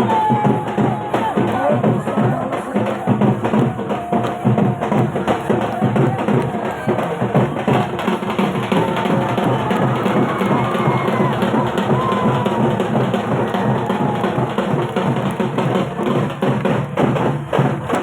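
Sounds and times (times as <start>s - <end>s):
barrel drum beaten with sticks: 0.0s - 18.0s.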